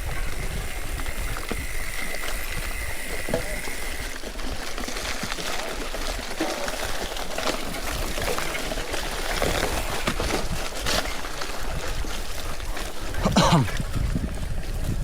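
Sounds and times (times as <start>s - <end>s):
bike rattles and clicks: 0.0s - 15.0s
tyre and wind noise: 0.0s - 15.0s.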